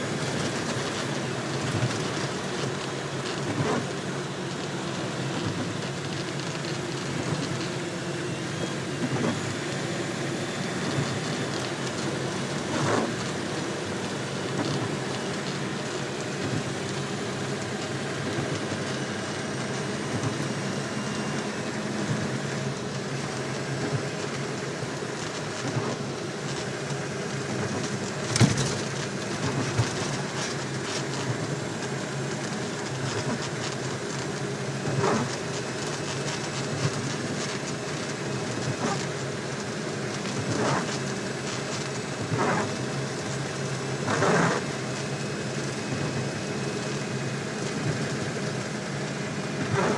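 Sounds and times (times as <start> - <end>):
car engine drone: 0.0 - 49.9
road noise: 0.0 - 49.9.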